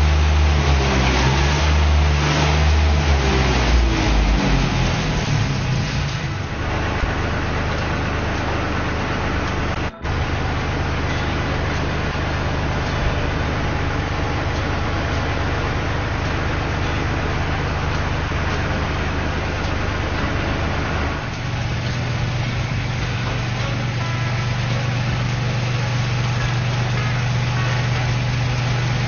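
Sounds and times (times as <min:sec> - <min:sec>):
vehicle engine drone: 0:00.0 - 0:29.0.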